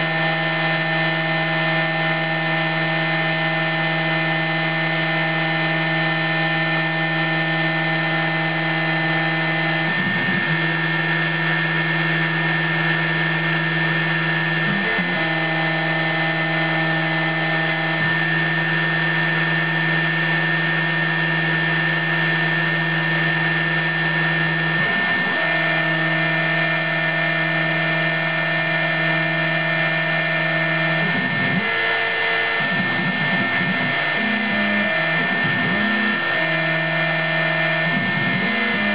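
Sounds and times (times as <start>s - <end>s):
rotary tool whine: 0.0s - 38.9s.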